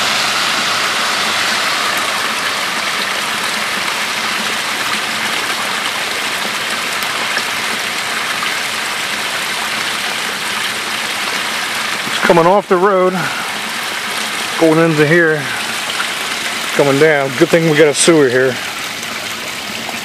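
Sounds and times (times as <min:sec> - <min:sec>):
water rushing along road: 0:00.0 - 0:20.0.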